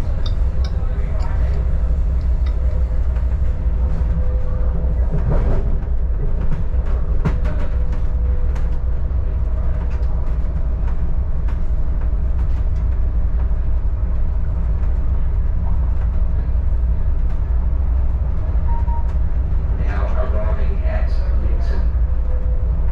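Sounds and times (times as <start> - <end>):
railcar rumbling on track: 0.0 - 22.9.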